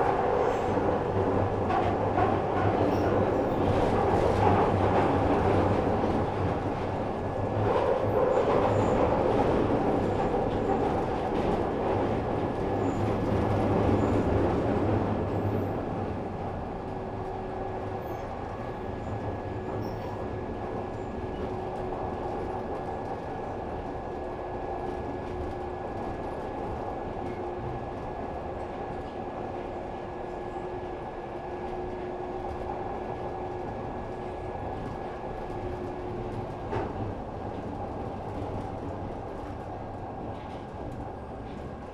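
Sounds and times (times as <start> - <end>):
subway train rumbling: 0.0 - 41.9.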